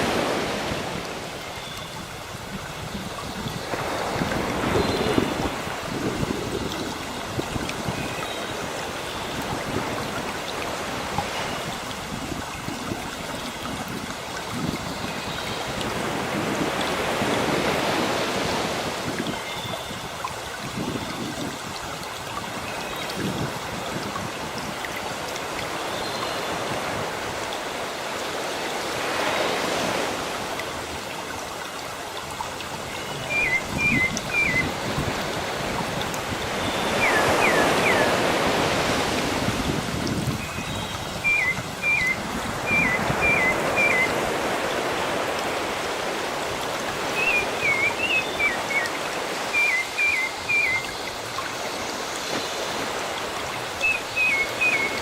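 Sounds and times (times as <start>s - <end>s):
sea waves washing on shore: 0.0s - 55.0s.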